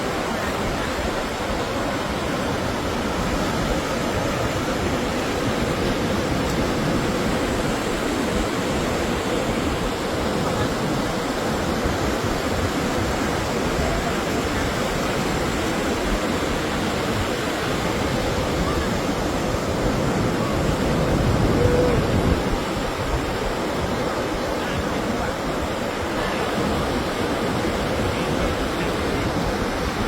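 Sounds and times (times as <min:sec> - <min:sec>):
sea surf breaking: 0:00.0 - 0:30.0.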